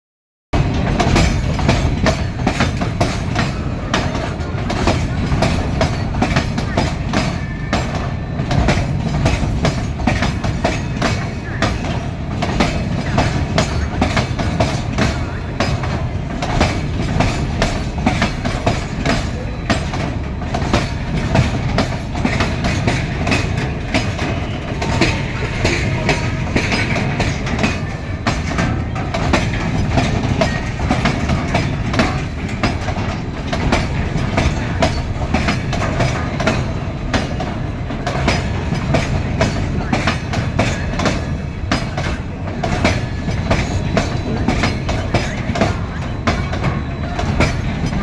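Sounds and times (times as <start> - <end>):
freight train rumbling: 0.6 - 48.0
wheel clacks over rail joints: 0.6 - 48.0.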